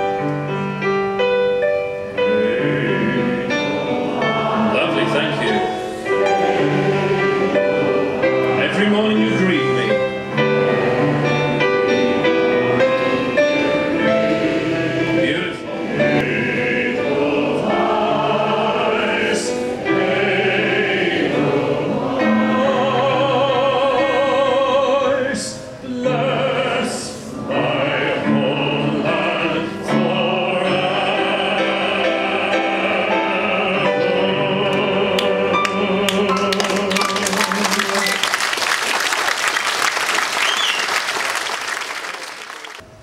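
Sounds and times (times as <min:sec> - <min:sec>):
piano accompaniment: 0:00.0 - 0:41.7
operatic singing: 0:02.2 - 0:38.4.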